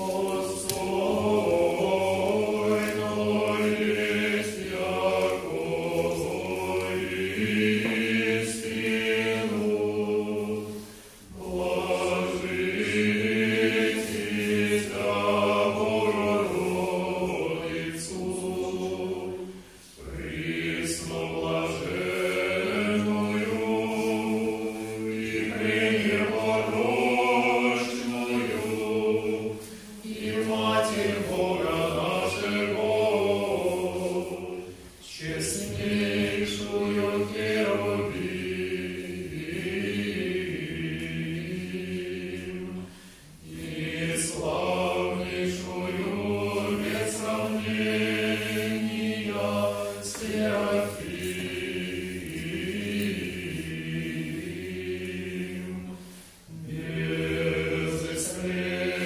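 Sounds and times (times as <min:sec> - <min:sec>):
male choir chanting a cappella: 0:00.0 - 0:59.0.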